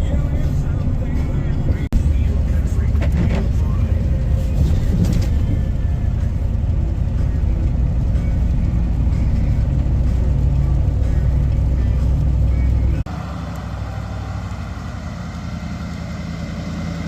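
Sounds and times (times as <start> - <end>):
road noise: 0.0 - 17.0
vehicle engine: 0.0 - 17.0.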